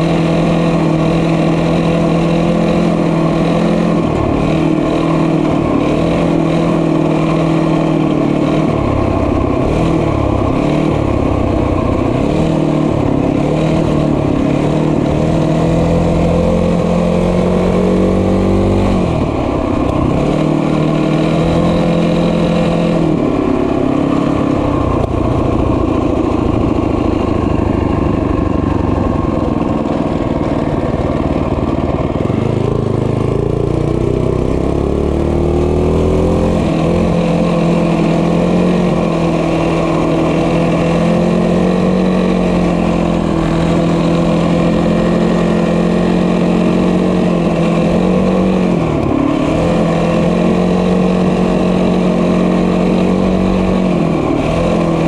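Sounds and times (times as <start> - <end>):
small motorbike engine running: 0.0 - 55.0.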